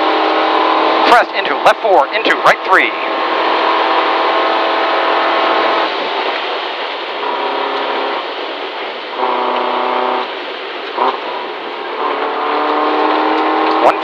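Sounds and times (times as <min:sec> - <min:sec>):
gravel and tyre noise: 0:00.0 - 0:14.0
rally car engine revving: 0:00.0 - 0:14.0.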